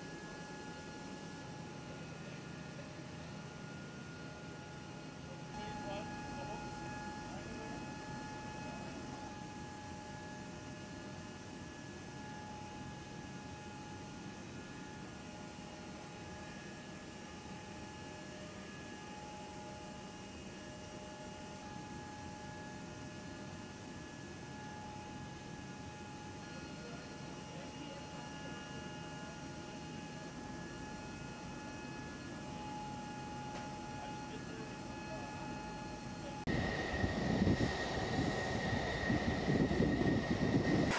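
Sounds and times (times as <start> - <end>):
aircraft power unit humming: 0.0 - 13.1, 20.8 - 40.9.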